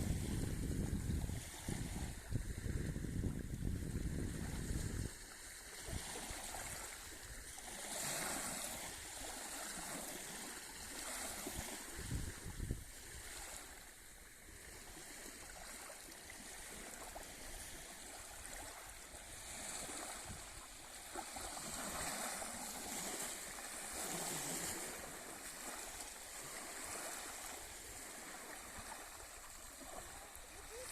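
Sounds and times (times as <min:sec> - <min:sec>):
small waves washing onto shore: 0:00.0 - 0:30.9.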